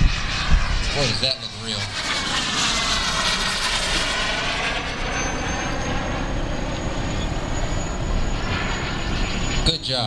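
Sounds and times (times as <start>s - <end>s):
model jet turbine rush: 0.0s - 10.0s
thin high whine: 0.4s - 10.0s.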